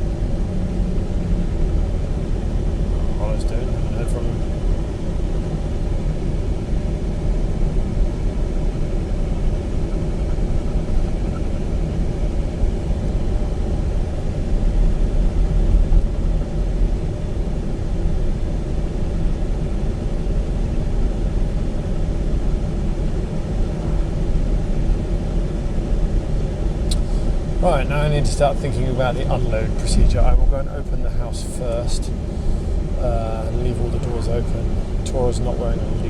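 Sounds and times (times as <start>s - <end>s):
car interior road rumble: 0.0s - 36.0s.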